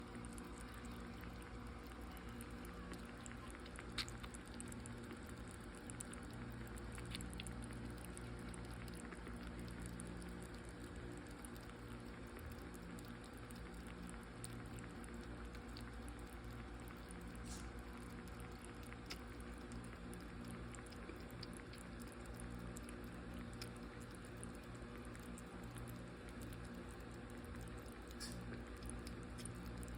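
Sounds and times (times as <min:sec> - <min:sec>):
kitten lapping water: 0:00.0 - 0:29.9
steady low hum: 0:00.0 - 0:29.9.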